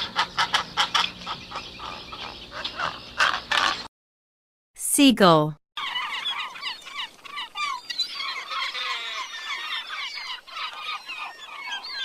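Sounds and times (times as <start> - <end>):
gulls calling: 0.0 - 3.9, 5.8 - 12.0.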